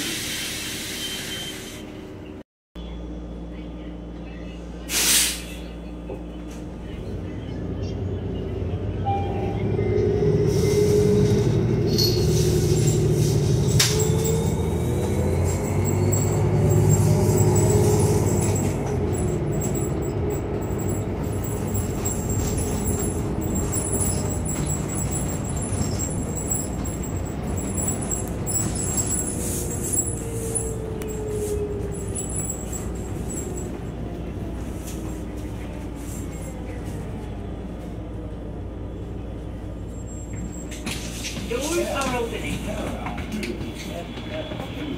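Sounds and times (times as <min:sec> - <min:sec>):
bus driving with whine: 0:00.0 - 0:44.9.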